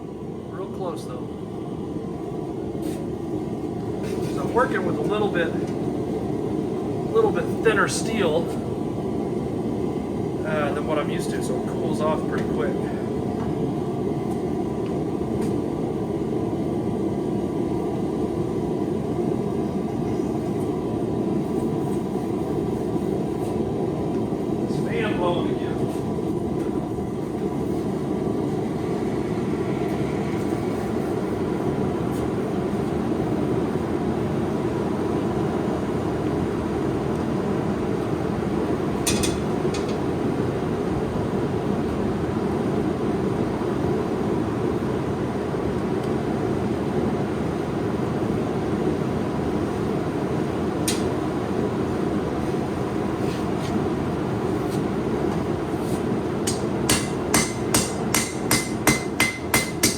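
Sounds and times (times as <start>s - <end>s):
fan blowing: 0.0s - 59.9s.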